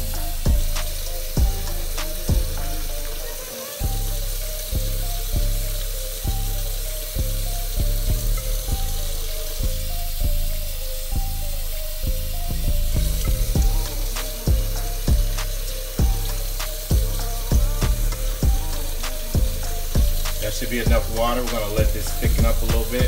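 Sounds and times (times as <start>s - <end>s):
background music with beat: 0.0s - 23.0s.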